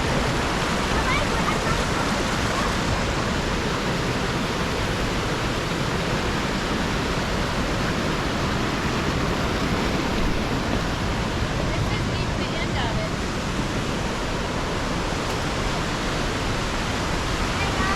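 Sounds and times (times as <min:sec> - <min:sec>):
rushing whitewater: 0:00.0 - 0:17.9.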